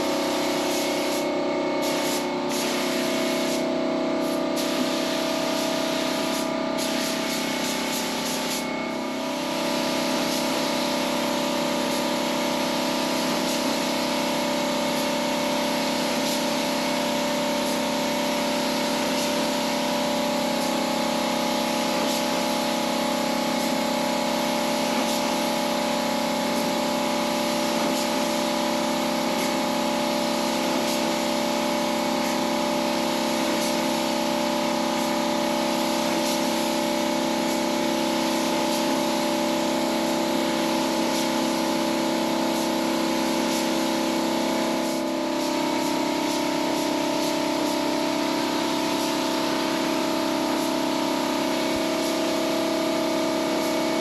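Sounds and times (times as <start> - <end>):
air compressor humming: 0.0 - 54.0
paint spray gun hissing: 0.0 - 54.0.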